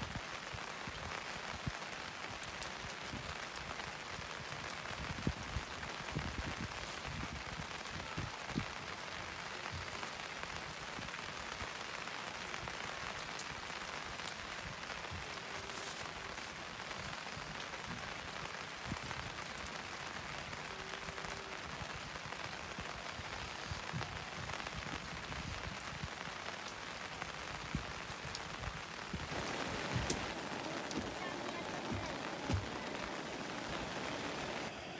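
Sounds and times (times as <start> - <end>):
louder raindrops: 0.0 - 34.9
rain pattering: 0.0 - 34.9.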